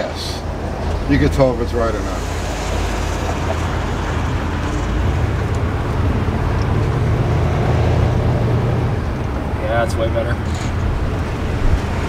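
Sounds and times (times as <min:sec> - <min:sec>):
car engine pulling: 0:00.0 - 0:12.0
road noise: 0:00.0 - 0:12.0.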